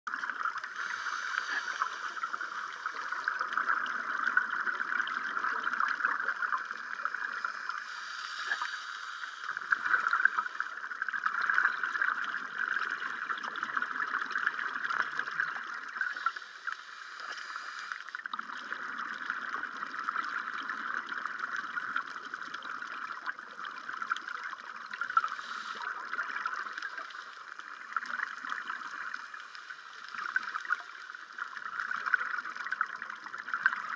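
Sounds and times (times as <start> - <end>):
exhaled air bubbling: 0.1 - 33.9
underwater crackling hiss: 0.2 - 23.3, 24.1 - 33.9.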